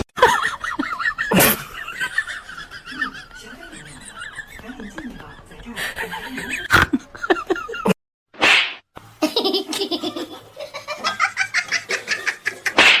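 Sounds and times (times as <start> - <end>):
laughter in pulsing bursts: 0.2 - 8.0, 9.2 - 12.8.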